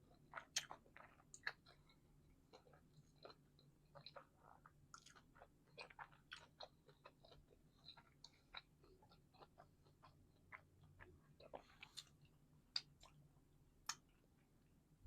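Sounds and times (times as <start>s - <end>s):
chewing food: 0.0s - 14.4s.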